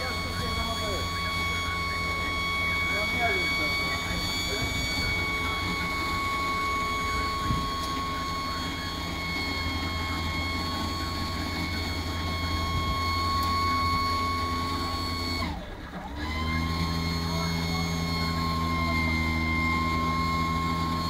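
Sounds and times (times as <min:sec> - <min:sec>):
low engine hum: 0:00.0 - 0:21.0
winch and hydraulics whine: 0:00.0 - 0:21.0.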